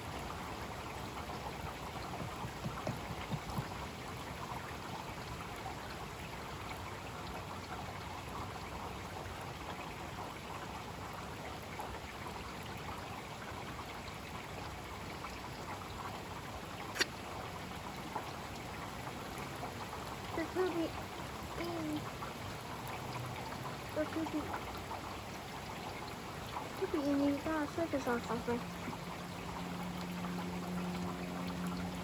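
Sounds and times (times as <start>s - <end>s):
water dripping and trickling: 0.0s - 32.0s.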